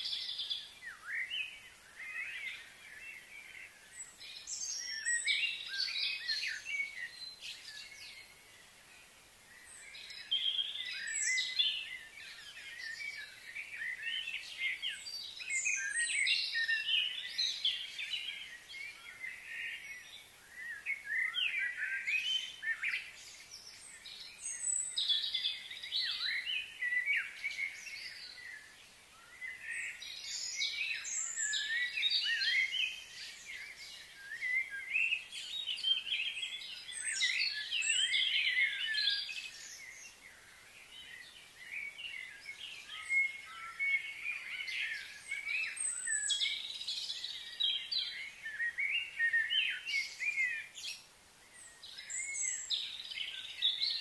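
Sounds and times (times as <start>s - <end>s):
birds chirping and singing: 0.0s - 54.0s.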